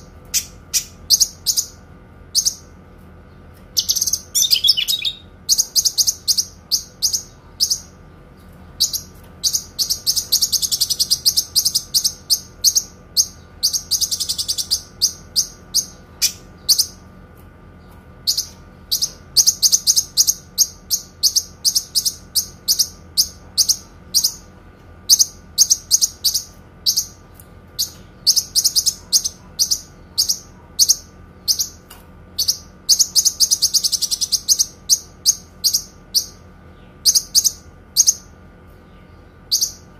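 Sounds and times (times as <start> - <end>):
faint steady hum: 0.0 - 39.9
songbird chirping and trilling: 0.0 - 39.9.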